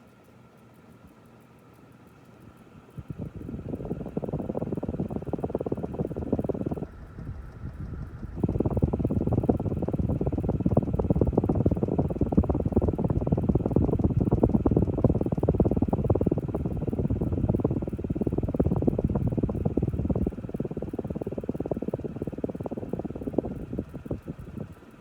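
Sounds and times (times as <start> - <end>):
fan draught buffeting microphone: 3.0 - 25.0.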